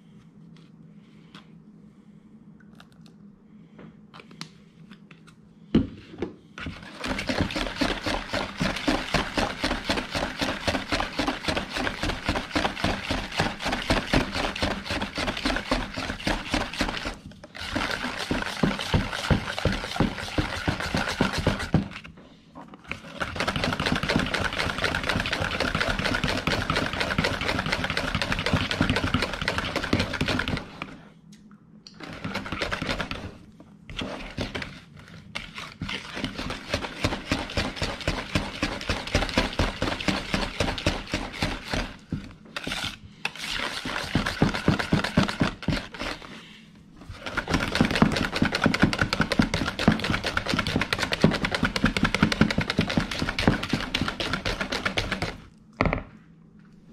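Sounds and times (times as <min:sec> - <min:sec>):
whisk beating in a bowl: 0:06.6 - 0:22.1, 0:22.9 - 0:31.0, 0:32.0 - 0:46.4, 0:47.0 - 0:55.5.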